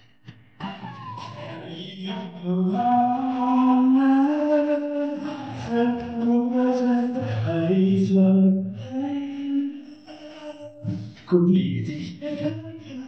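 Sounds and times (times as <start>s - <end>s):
man singing through speakers: 0.6s - 13.0s.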